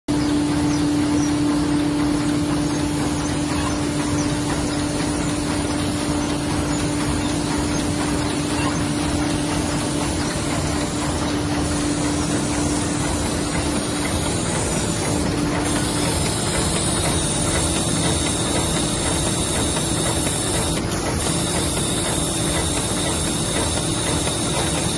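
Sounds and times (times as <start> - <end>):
sewing machine running: 1.8 - 24.9.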